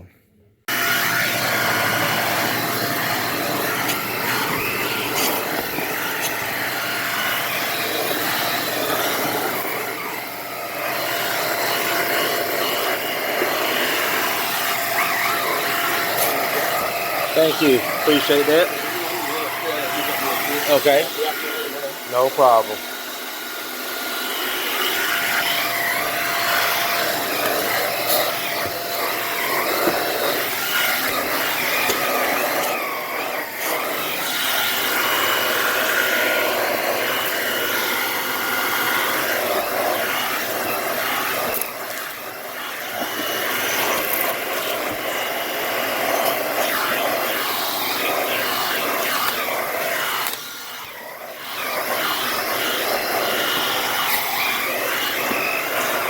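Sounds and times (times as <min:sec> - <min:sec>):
upright vacuum cleaner running: 0:00.7 - 0:56.0.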